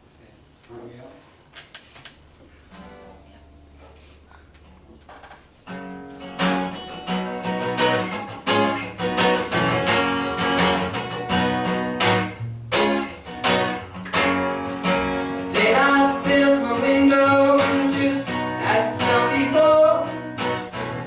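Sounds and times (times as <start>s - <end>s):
acoustic guitar strumming: 2.8s - 21.0s.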